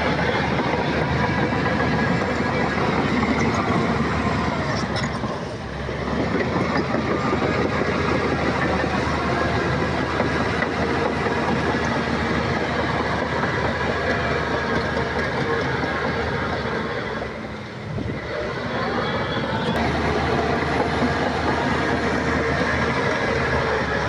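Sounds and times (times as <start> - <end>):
bulldozer diesel engine: 0.0 - 24.0
clatter of steel tracks: 0.0 - 24.0.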